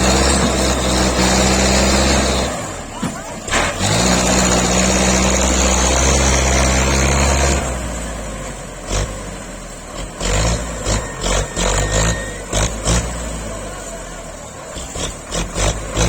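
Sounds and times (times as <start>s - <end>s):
tractor diesel engine: 0.0s - 16.0s.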